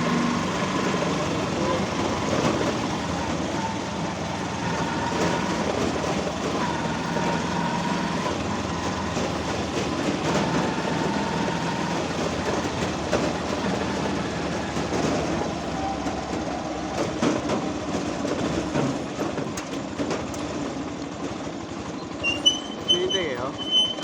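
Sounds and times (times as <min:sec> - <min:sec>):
moving vehicle noise: 0:00.0 - 0:24.0.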